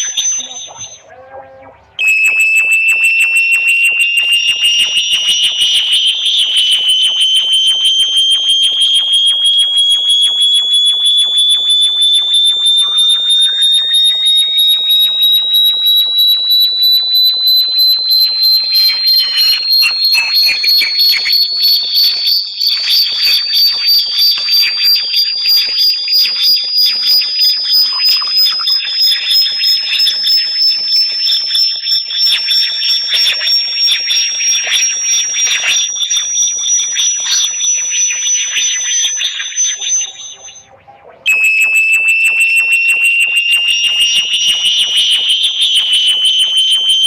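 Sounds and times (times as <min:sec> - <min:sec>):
high piercing electronic whistle: 0:00.0 - 0:01.3, 0:02.0 - 0:47.0
warbling electronic tones: 0:00.0 - 0:47.0.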